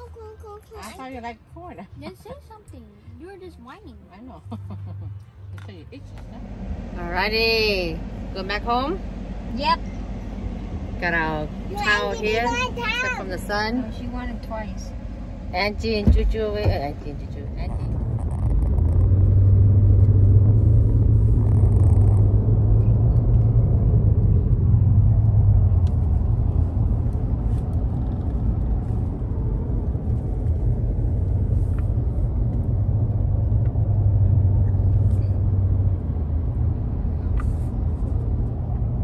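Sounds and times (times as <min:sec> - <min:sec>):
car cabin road rumble: 0:00.0 - 0:39.0.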